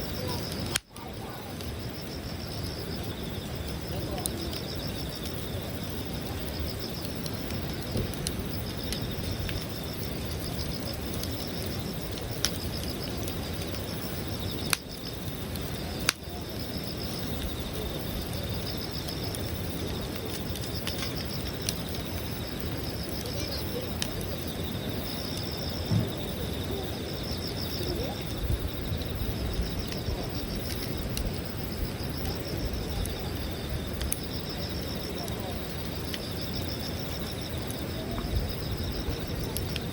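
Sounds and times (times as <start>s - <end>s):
campfire crackling: 0.0s - 39.9s
insects chirping in trills: 0.0s - 39.9s.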